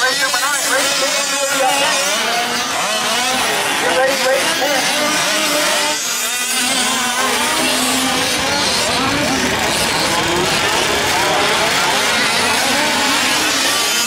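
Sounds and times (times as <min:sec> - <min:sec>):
small two-stroke engines racing: 0:00.0 - 0:14.0.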